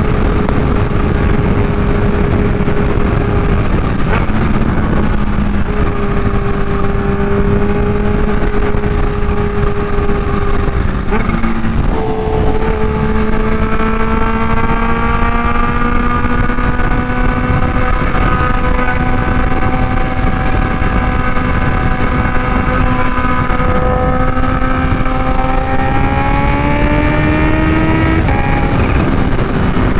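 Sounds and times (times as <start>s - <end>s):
heavy wind noise: 0.0s - 29.9s
motorcycle engine at speed: 0.0s - 29.9s.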